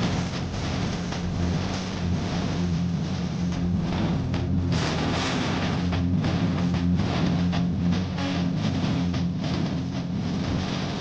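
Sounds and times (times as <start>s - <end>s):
low drone: 0.0s - 11.0s.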